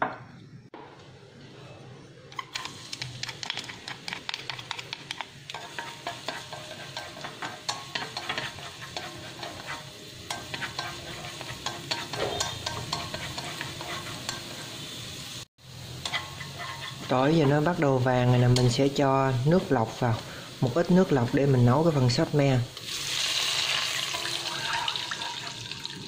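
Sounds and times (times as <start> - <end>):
garlic sizzling in hot oil: 2.3 - 26.0.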